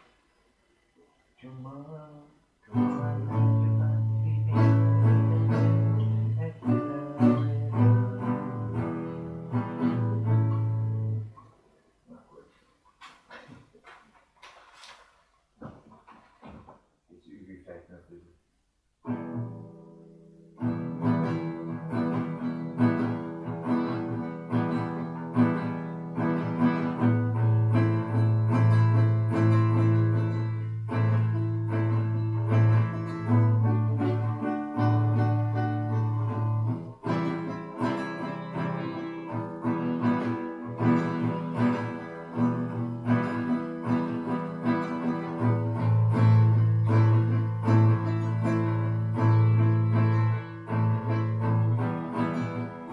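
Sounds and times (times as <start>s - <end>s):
guitar chords: 1.9s - 11.6s, 19.0s - 52.9s.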